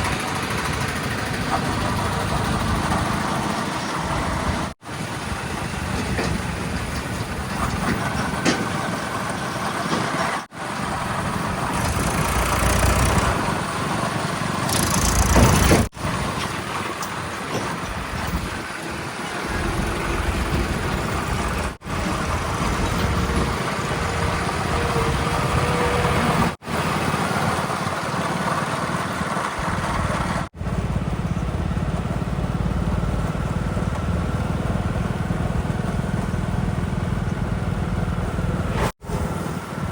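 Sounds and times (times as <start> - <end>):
heavy vehicle engines idling: 0.0 - 39.9.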